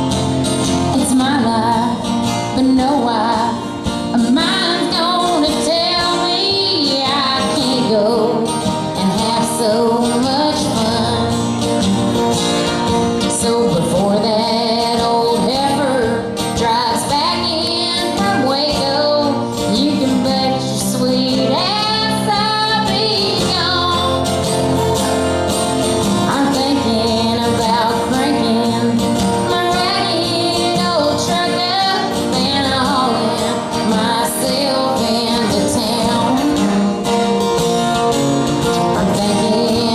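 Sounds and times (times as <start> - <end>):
guitar accompaniment: 0.0 - 39.9
woman singing: 0.0 - 39.9.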